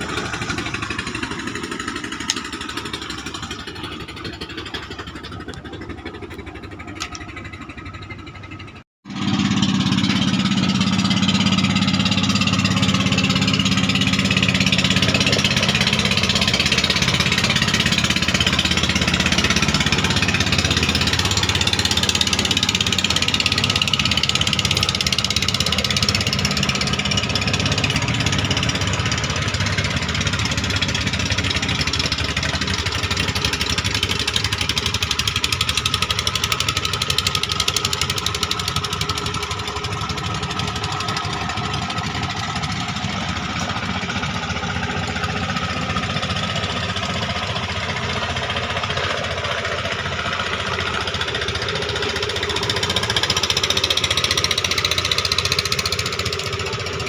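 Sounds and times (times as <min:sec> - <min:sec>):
boat engine chugging: 0:00.0 - 0:57.0.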